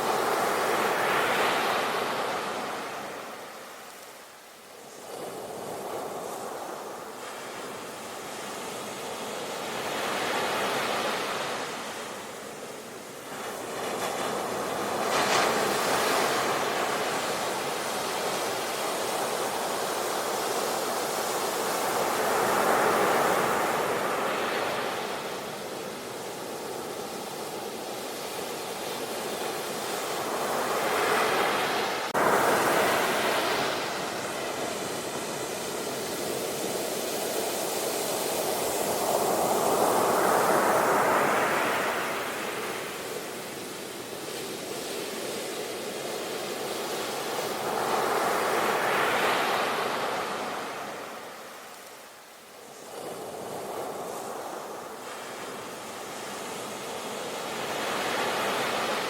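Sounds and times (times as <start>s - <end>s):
sea surf washing on shore: 0.0s - 59.0s.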